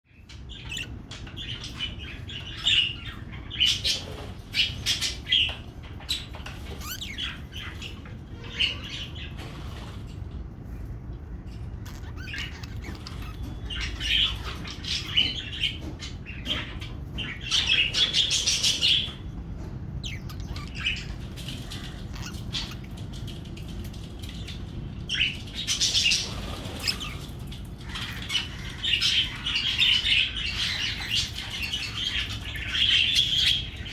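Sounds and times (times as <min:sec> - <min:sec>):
budgerigars chirping and warbling: 0:00.1 - 0:33.9.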